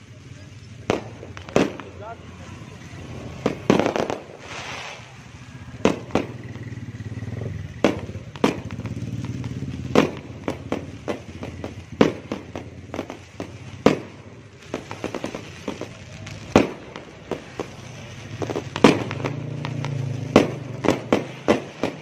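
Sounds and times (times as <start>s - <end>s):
fireworks and firecrackers banging: 0.0s - 22.0s.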